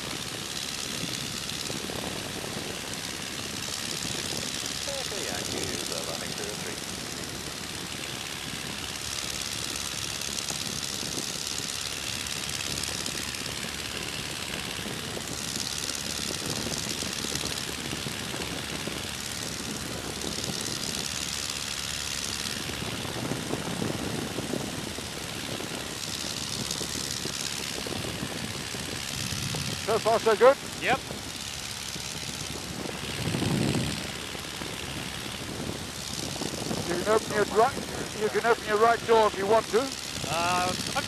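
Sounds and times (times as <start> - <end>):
biplane engine and propeller running: 0.0 - 41.0
wind rushing over open cockpit: 0.0 - 41.0.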